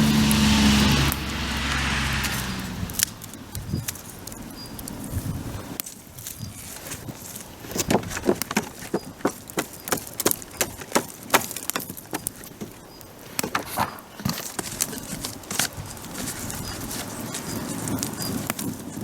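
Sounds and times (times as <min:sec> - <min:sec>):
dry wood cracking and snapping: 0:00.0 - 0:19.0.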